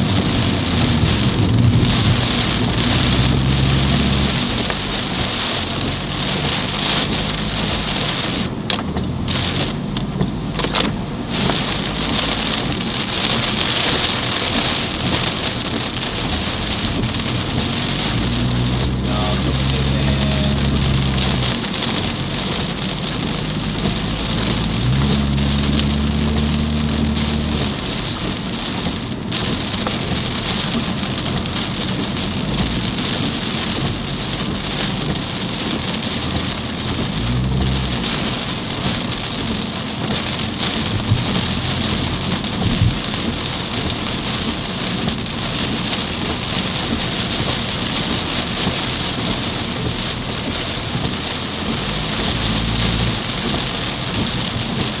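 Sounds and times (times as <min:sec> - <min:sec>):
heavy rain drumming on car: 0:00.0 - 0:55.0
low vehicle hum: 0:00.0 - 0:55.0.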